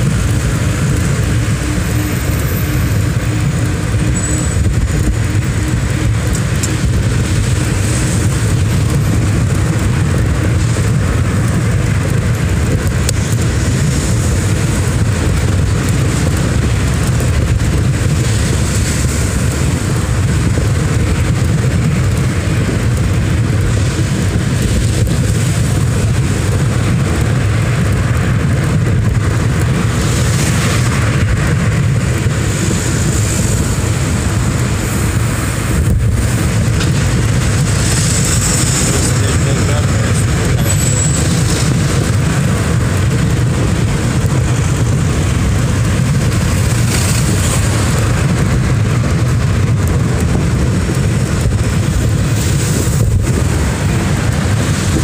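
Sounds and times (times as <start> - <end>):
road and engine noise: 0.0 - 55.0
wind buffeting the microphone: 0.0 - 55.0.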